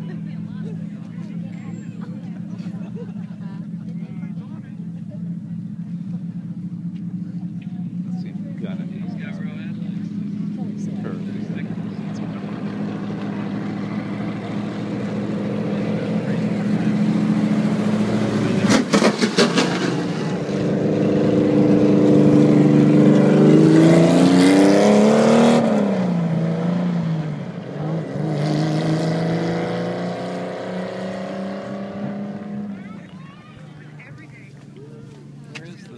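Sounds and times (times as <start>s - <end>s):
race car engine passing: 0.0s - 35.9s.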